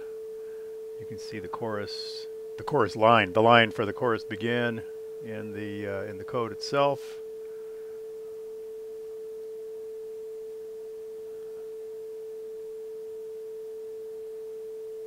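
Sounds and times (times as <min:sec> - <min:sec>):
steady sine tone: 0:00.0 - 0:15.0.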